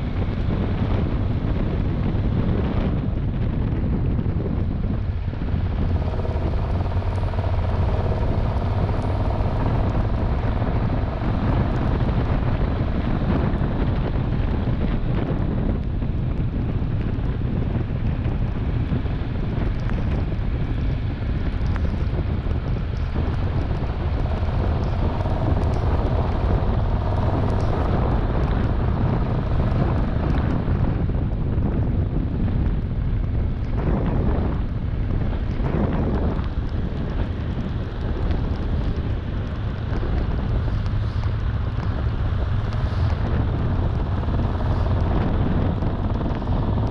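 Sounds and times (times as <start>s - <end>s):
motorcycle engine drone: 0.0s - 46.9s
wind rushing over microphone: 0.0s - 46.9s.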